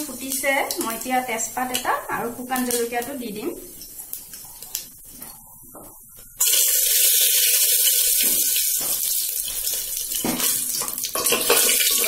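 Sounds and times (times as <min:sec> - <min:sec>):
hot oil sizzling: 0:00.0 - 0:05.1, 0:06.4 - 0:12.0.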